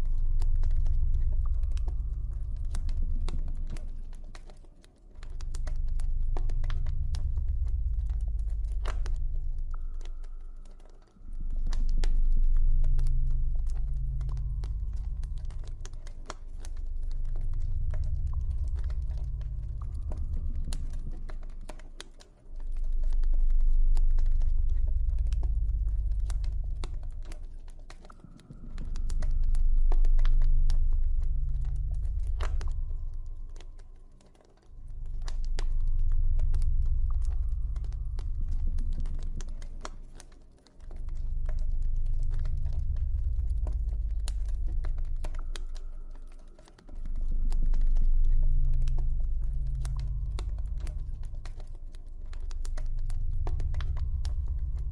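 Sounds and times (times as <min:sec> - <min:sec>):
deep low drone: 0:00.0 - 0:54.9.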